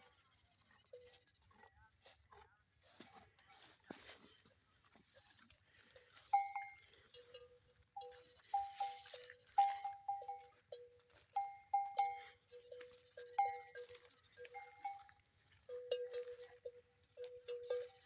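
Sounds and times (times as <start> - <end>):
animal neck bells clanking: 0.0 - 1.8, 3.4 - 18.0.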